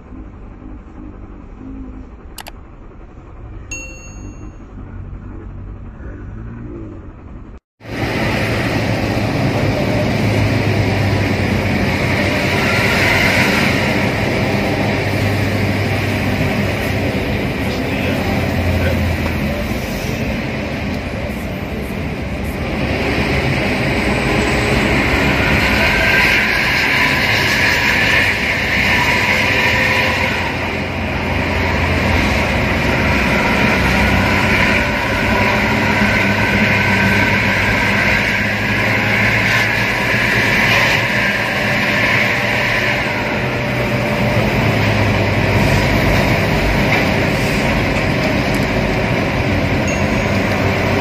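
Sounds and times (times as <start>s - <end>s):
low engine hum: 0.0s - 51.0s
bus exhaust hissing: 7.8s - 49.8s.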